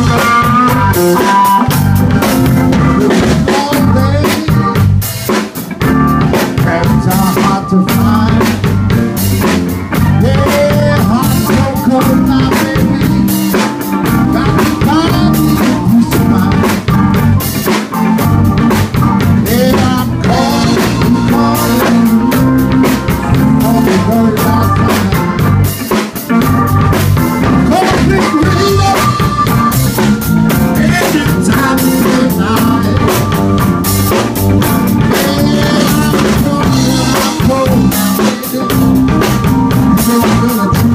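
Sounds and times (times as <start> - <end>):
blues band playing: 0.0 - 40.9
drum kit beat: 0.0 - 40.9.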